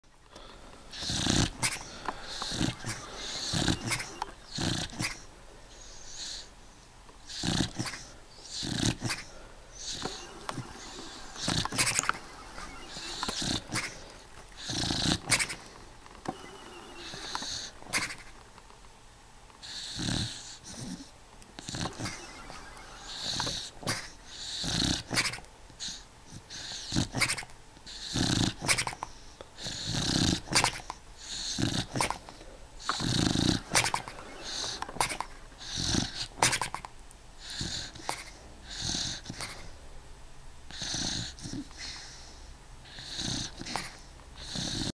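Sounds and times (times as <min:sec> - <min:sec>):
dog snoring: 0:00.4 - 0:06.5, 0:07.2 - 0:18.4, 0:19.6 - 0:39.8, 0:40.7 - 0:44.9.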